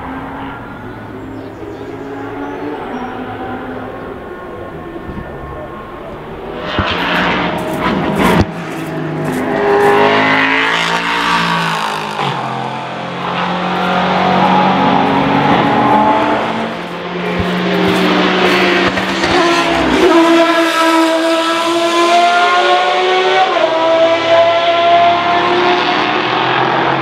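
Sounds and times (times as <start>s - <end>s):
racing car engines at high revs: 0.0s - 27.0s.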